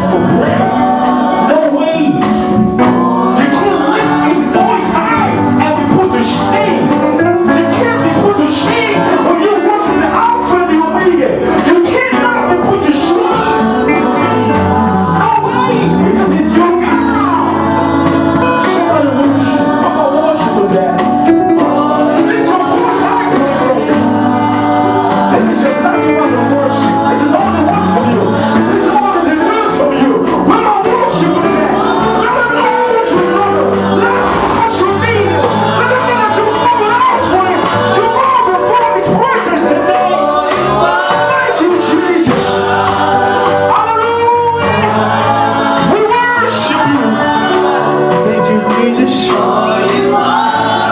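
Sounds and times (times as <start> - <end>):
live gospel band: 0.0 - 50.9.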